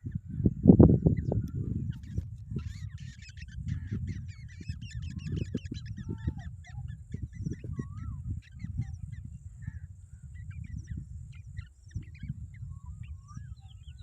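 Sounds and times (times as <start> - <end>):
birds chirping harshly: 0.0 - 14.0.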